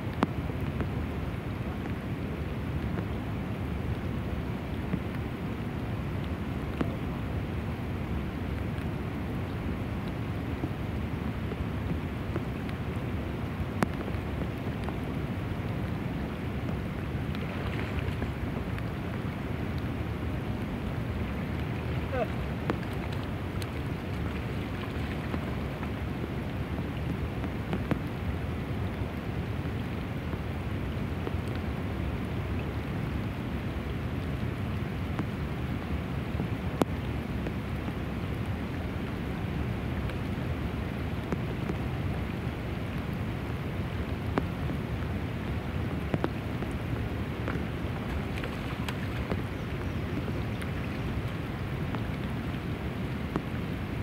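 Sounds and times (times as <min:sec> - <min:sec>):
sharp ticks of raindrops: 0:00.0 - 0:54.0
steady rain falling: 0:00.0 - 0:54.0.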